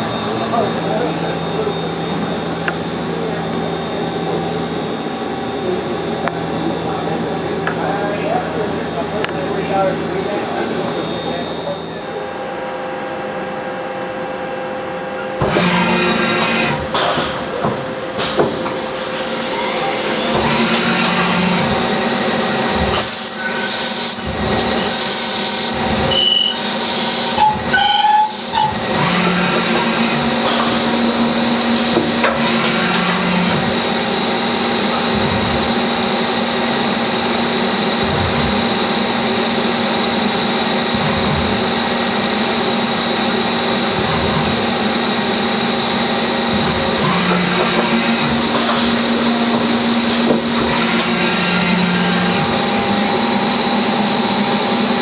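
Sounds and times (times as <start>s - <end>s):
lathe machine hum and hiss: 0.0s - 55.0s.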